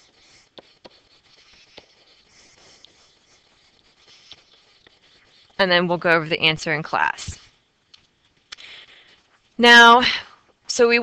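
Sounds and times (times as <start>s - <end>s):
stylus scratching: 0.0s - 9.6s.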